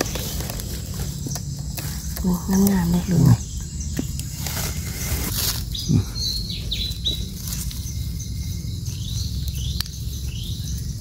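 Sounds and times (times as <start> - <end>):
low rumble: 0.0 - 11.0
faint bird chirps: 1.2 - 11.0.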